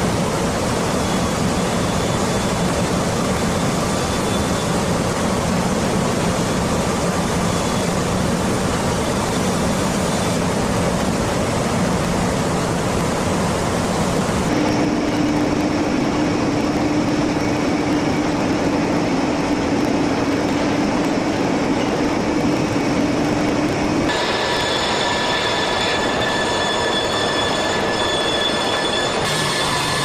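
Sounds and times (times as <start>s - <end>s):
assembly line machinery noise: 0.0s - 30.0s.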